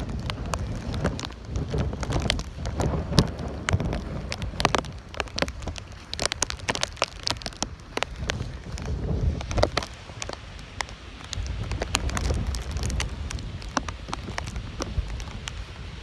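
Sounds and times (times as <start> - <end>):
low wind rumble: 0.0 - 16.0
raindrops tapping: 0.0 - 16.0.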